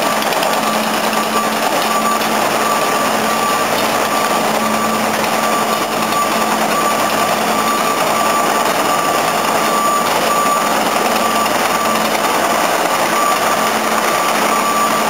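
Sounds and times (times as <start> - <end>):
reversing alarm beeping: 0.0 - 15.0.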